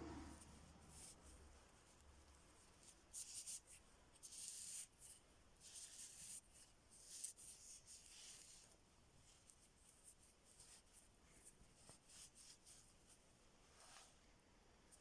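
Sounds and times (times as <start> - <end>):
faint scratching and rubbing: 0.0 - 15.0.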